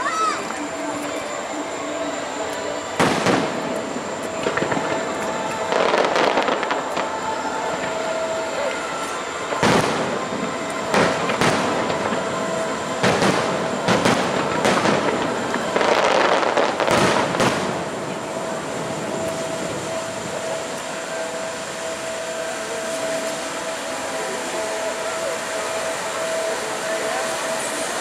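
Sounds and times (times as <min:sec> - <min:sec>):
fireworks booming and crackling: 0:00.0 - 0:28.0.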